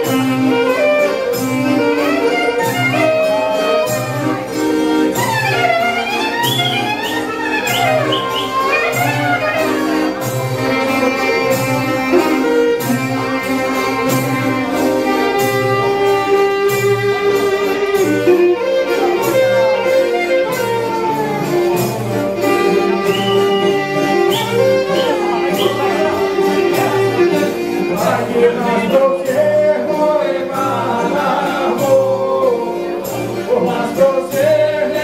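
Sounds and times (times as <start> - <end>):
accordions: 0.0 - 35.0
clarinet melody: 0.0 - 35.0
violin melody: 0.0 - 35.0.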